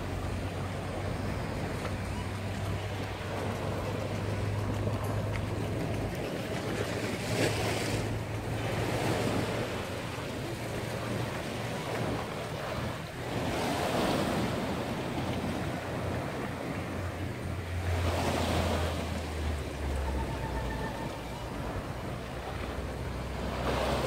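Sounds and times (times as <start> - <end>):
sea surf on rocky shore: 0.0 - 24.0
wind buffeting microphone: 0.0 - 24.0.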